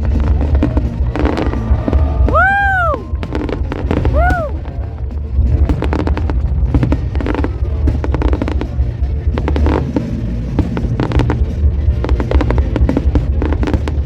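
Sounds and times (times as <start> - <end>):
deep booms of fireworks shells: 0.0 - 14.0
fireworks crackling bursts: 0.0 - 14.0.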